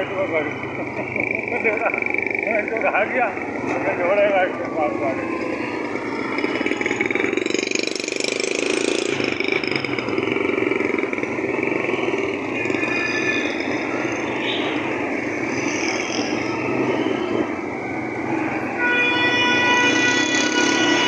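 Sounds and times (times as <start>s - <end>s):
motorcycle engine running: 0.0s - 18.9s
traffic noise: 0.0s - 21.0s.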